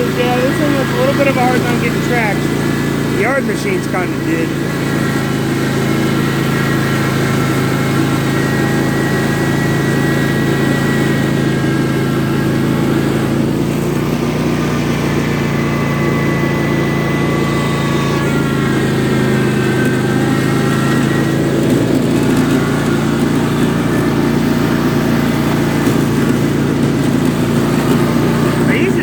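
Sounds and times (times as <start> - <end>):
lawn tractor engine running: 0.0 - 29.0.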